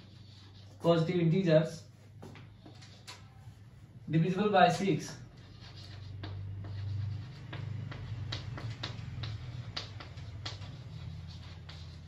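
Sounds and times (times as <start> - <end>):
chalk tapping and scratching on chalkboard: 0.0 - 1.2, 1.8 - 3.6, 4.7 - 12.0.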